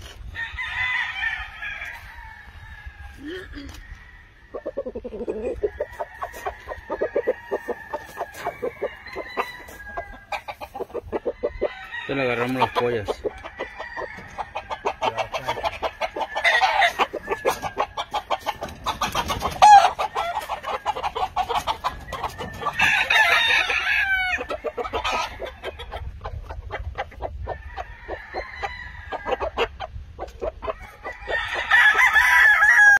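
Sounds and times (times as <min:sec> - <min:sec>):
roosters crowing: 0:00.0 - 0:32.9.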